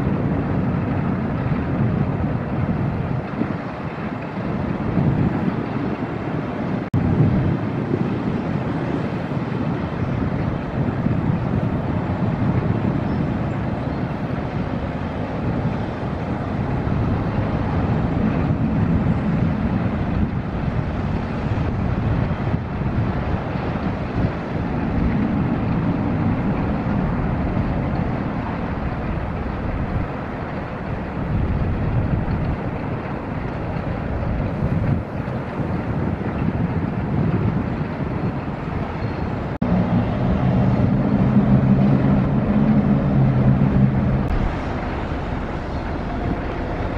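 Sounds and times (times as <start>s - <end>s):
ship diesel engine running: 0.0s - 46.9s
wind rumble on microphone: 0.0s - 46.9s.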